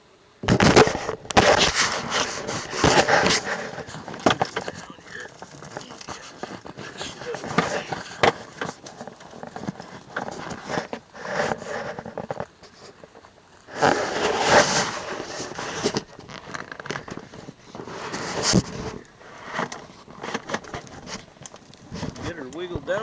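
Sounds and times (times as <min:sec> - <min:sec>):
inflatable boat hull scraping: 0:00.4 - 0:23.0.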